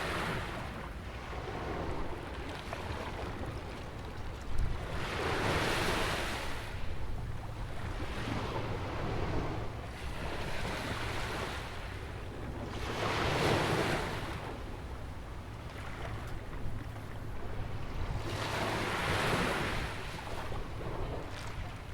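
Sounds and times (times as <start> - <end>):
ocean waves breaking on beach: 0.0 - 4.0, 4.7 - 21.9
wind rumble on microphone: 0.0 - 21.9.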